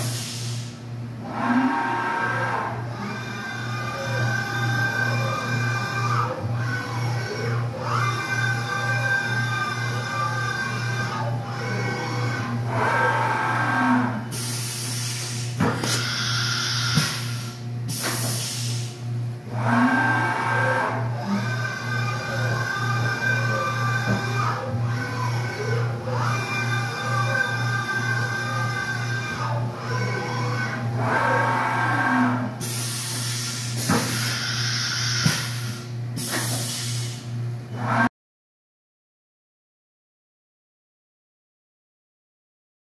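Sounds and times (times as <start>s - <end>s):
machine axis drives whining: 1.1s - 18.4s, 19.4s - 36.7s.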